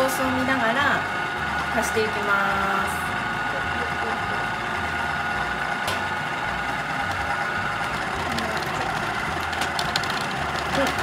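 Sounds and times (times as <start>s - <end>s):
food processor motor running: 0.0s - 11.0s.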